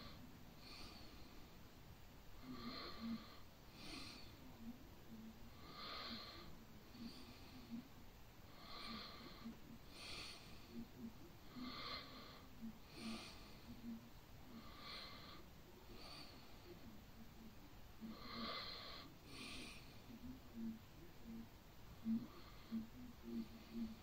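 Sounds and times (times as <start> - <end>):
soft breathing: 0.0 - 24.0.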